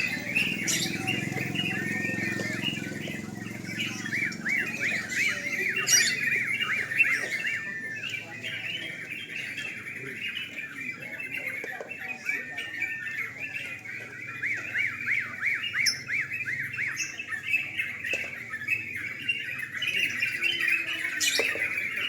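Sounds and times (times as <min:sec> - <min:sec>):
bulbuls chirping: 0:00.0 - 0:22.0
murmur of voices: 0:00.0 - 0:22.0.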